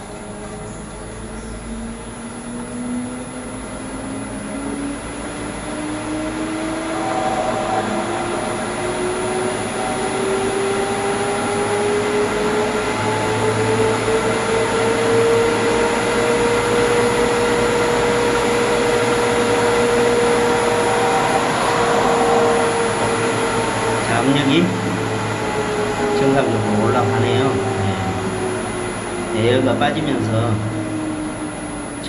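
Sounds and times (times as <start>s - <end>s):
water pump motor whine: 0.0s - 32.0s.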